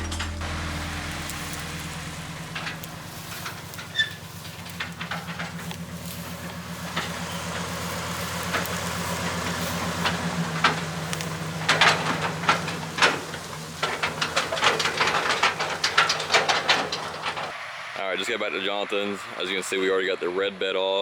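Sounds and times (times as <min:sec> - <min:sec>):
clicks and rattles: 0:00.0 - 0:17.6
truck engine droning: 0:00.0 - 0:21.0.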